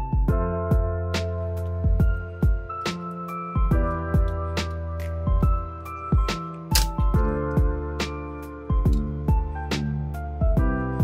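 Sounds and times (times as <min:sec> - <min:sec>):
chill beat music: 0:00.0 - 0:11.0.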